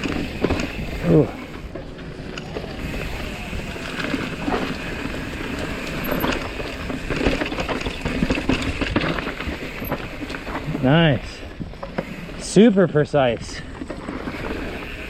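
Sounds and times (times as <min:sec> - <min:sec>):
bike clattering over bumps: 0:00.0 - 0:12.3
tyres rolling on dirt: 0:00.0 - 0:15.0.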